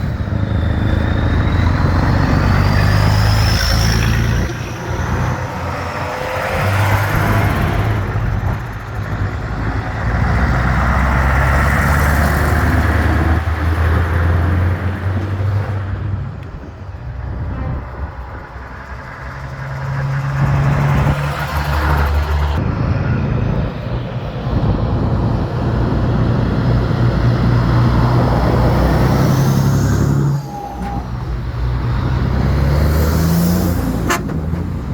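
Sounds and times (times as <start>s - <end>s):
truck engines passing: 0.0s - 34.9s.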